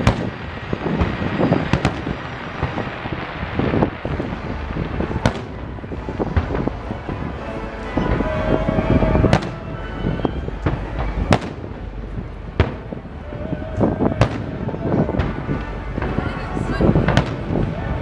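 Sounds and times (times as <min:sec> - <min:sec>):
fireworks booming: 0:00.0 - 0:18.0
low rumble: 0:00.0 - 0:18.0.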